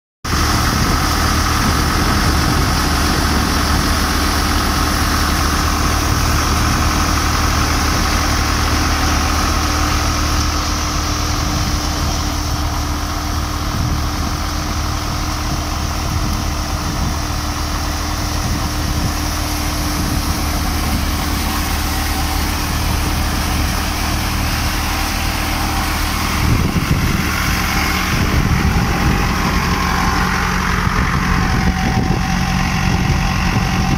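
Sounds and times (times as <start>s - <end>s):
tractor engine drone: 0.2s - 33.9s
thresher drum and fan whirring: 0.3s - 33.9s.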